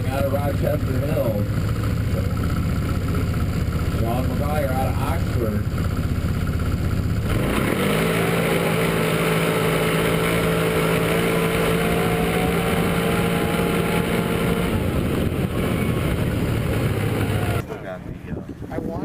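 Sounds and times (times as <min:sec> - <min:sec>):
atv engine revving: 0:00.0 - 0:17.8.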